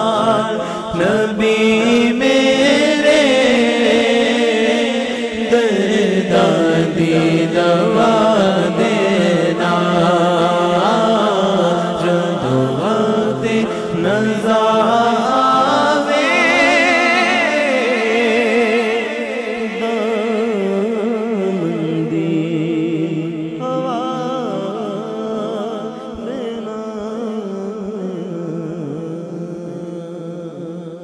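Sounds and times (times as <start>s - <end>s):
man singing solo with vibrato: 0.0s - 31.0s.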